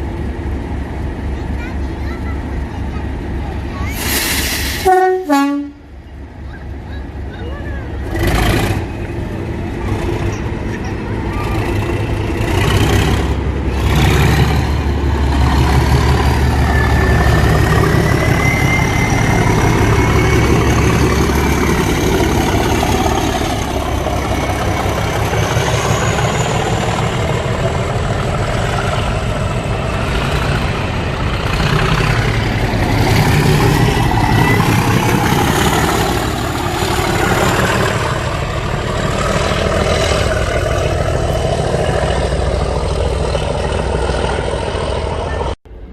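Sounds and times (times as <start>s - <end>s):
diesel locomotive engine running: 0.0s - 45.9s.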